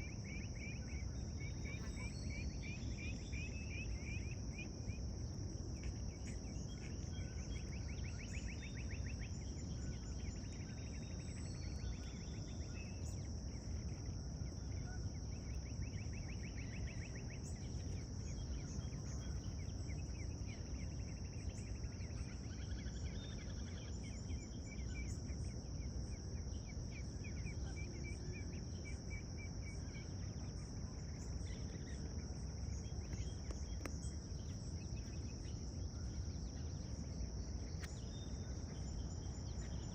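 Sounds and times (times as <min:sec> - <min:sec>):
insects droning: 0:00.0 - 0:39.9
low background rumble: 0:00.0 - 0:39.9
small birds chirping trills: 0:00.0 - 0:39.9.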